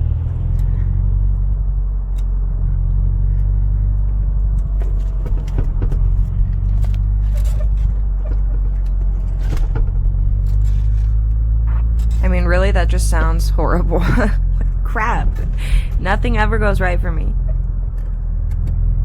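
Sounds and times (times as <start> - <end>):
engine ticks and clicks: 0.0 - 19.0
truck engine rumbling: 0.0 - 19.0.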